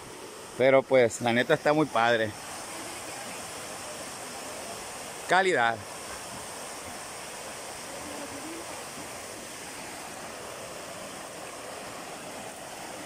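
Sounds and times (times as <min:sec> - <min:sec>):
creek running over rocks: 0:00.0 - 0:13.0
waterfall pouring into pool: 0:00.0 - 0:13.0.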